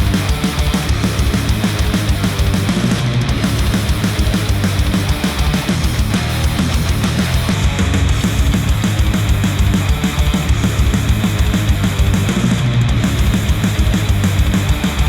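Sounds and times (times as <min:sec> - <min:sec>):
heavy rock music through headphones: 0:00.0 - 0:15.0.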